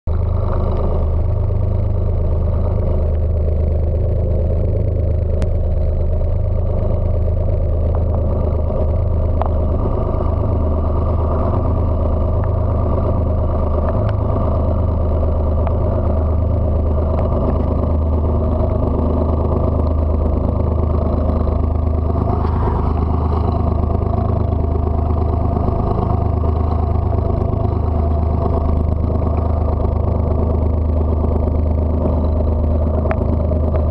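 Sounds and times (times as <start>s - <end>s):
boat engine droning: 0.0s - 33.9s.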